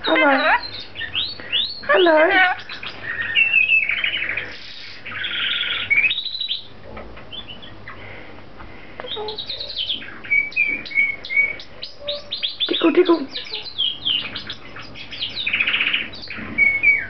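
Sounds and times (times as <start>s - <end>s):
lorikeets chirping and whistling: 0.0s - 8.1s, 9.0s - 17.0s.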